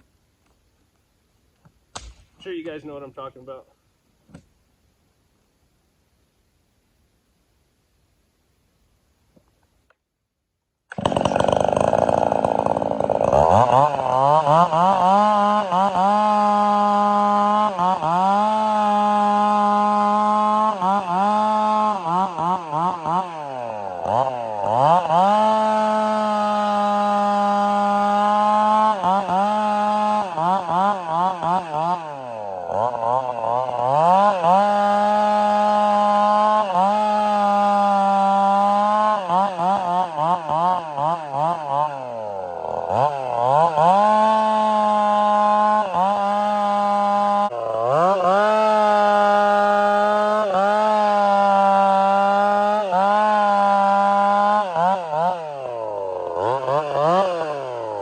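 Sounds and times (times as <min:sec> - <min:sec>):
chainsaw cutting wood: 0:00.0 - 0:03.4, 0:04.2 - 0:04.6, 0:10.9 - 0:58.0.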